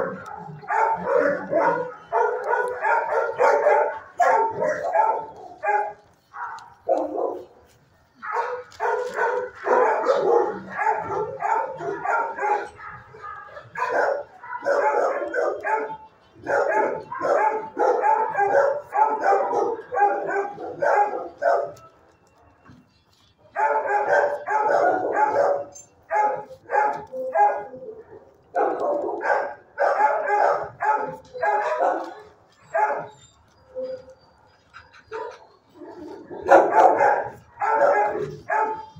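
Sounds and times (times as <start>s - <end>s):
dogs barking: 0.0s - 22.0s, 23.5s - 38.9s.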